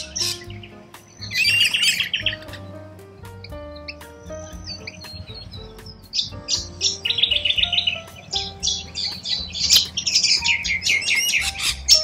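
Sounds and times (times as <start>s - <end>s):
birds chirping: 0.0s - 12.0s
soft background music: 0.0s - 12.0s.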